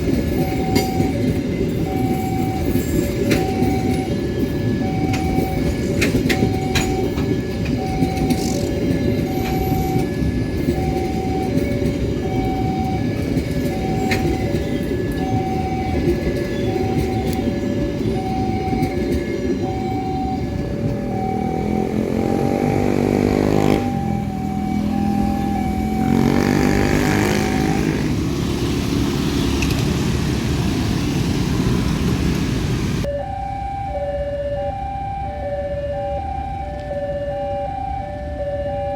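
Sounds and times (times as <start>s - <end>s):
two-tone electronic warning signal: 0.0s - 28.3s, 33.0s - 38.9s
train rumbling past: 0.0s - 33.1s.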